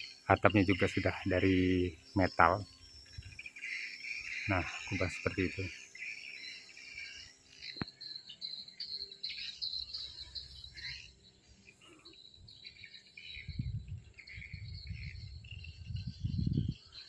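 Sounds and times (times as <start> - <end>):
insects trilling and chirping: 0.0 - 17.0.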